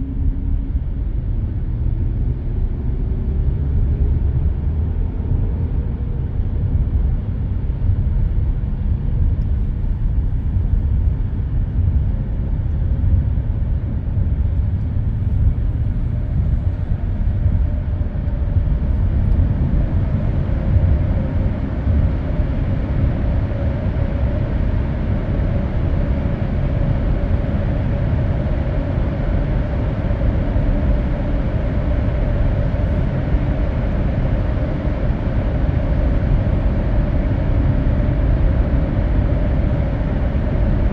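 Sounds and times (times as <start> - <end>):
faint hum: 0.0 - 40.9
low engine drone: 0.0 - 40.9
road and tyre noise: 0.0 - 40.9.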